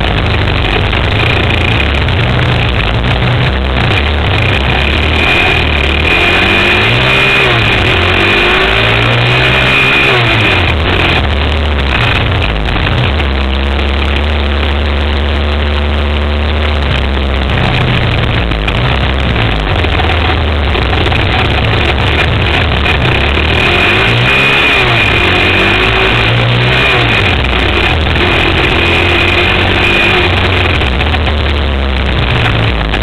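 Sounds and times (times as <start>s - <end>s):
quad engine running hard: 0.0s - 33.0s.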